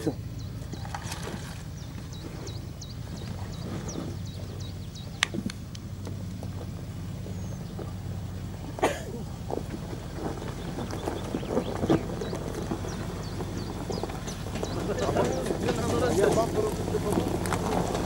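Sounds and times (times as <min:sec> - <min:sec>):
engine running at low revs: 0:00.0 - 0:18.0
tyres crunching over stones: 0:00.1 - 0:18.0.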